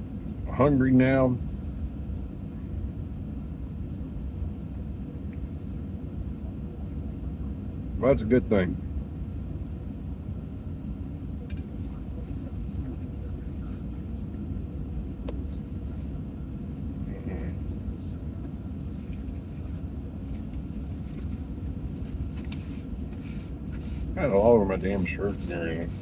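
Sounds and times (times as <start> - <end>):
vehicle running rumble: 0.0 - 26.0.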